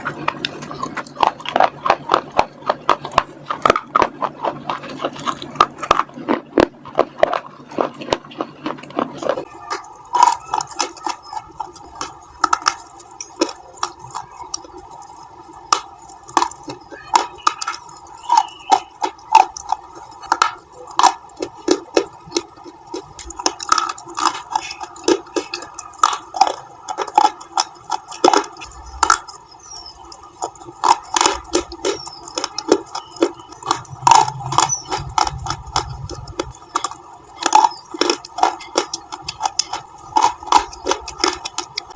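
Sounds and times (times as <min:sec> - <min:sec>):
chewing: 0:00.0 - 0:41.9
crunchy bites: 0:00.0 - 0:41.9.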